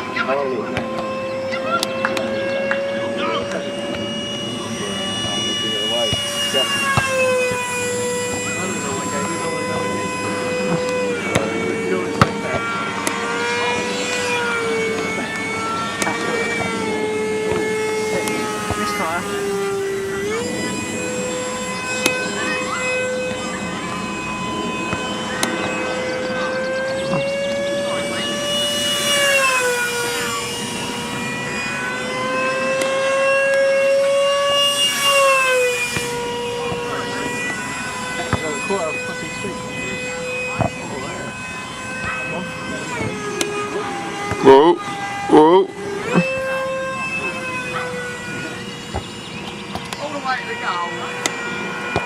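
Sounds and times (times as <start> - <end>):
model plane motor whining: 0.0 - 52.0.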